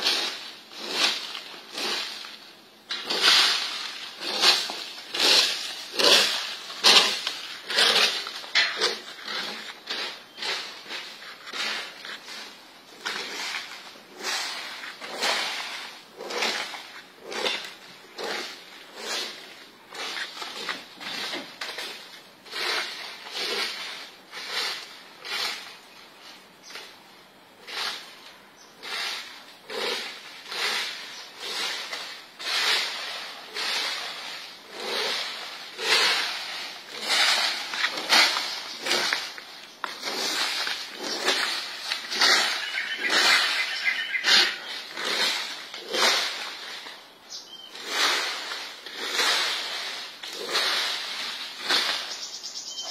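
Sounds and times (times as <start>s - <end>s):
rake scraping dirt and leaves: 0.0s - 52.9s.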